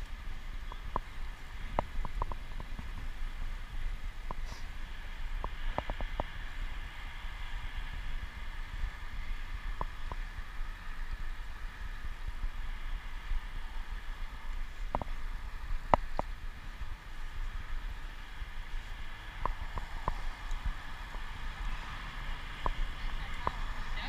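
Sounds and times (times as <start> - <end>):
bicycle rolling on pavement: 0.0 - 24.0
wind on microphone: 0.0 - 24.0.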